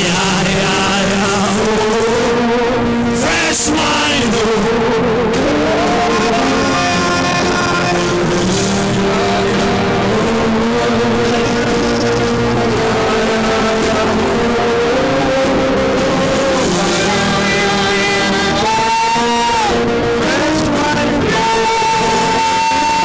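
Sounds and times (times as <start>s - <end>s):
slow worship music: 0.0s - 23.0s.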